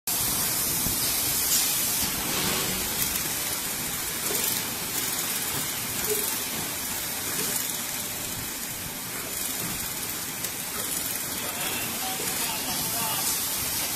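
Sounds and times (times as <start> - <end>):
filling machine hissing: 0.1 - 13.9.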